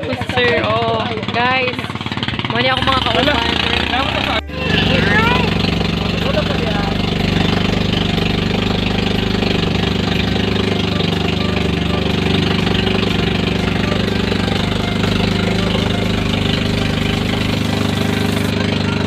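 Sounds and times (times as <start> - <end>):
motorboat engine running: 0.0 - 19.0.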